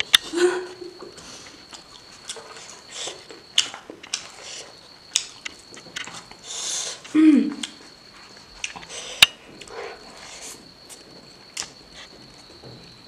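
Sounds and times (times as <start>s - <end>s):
person chewing food: 1.2s - 12.2s.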